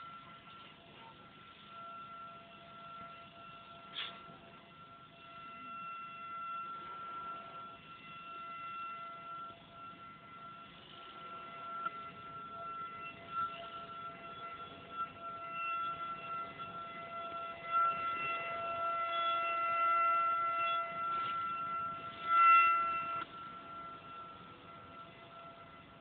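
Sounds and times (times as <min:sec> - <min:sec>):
alarm siren steady pitch: 0:00.0 - 0:26.0.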